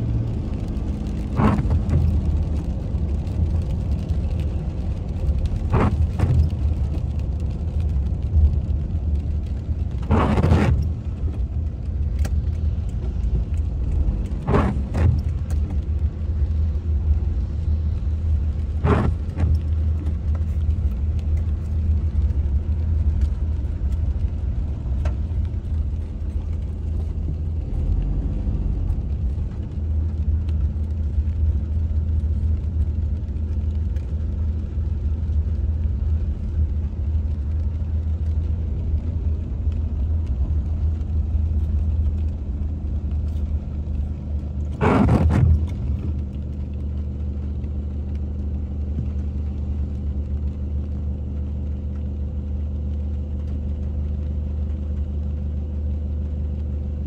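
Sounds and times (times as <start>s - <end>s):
engine and road rumble: 0.0s - 57.0s
tyres swishing on wet road: 0.0s - 57.0s.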